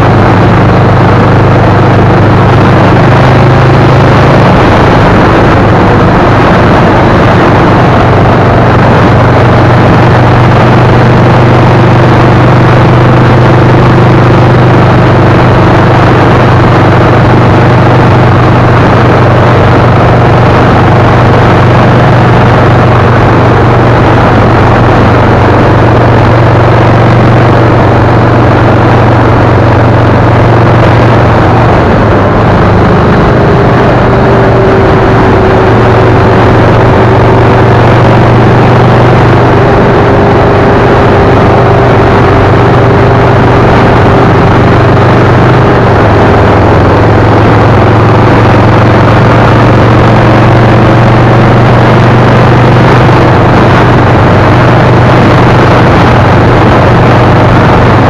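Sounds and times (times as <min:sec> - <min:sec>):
road noise: 0:00.0 - 0:58.0
vehicle engine hum: 0:00.0 - 0:58.0
wind noise: 0:00.0 - 0:58.0.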